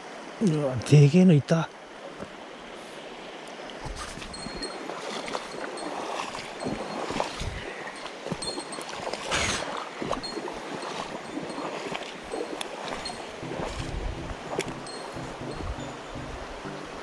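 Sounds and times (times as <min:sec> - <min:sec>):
stream water rushing and splashing: 0:00.0 - 0:17.0.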